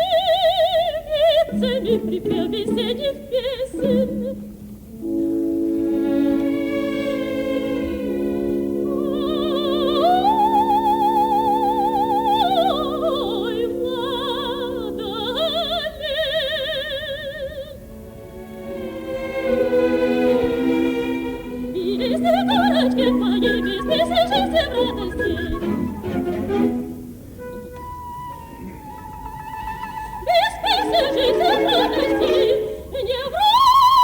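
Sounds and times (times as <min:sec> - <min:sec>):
operatic soprano singing: 0:00.0 - 0:26.7, 0:28.8 - 0:34.0
symphony orchestra playing: 0:01.5 - 0:16.1, 0:17.8 - 0:33.2.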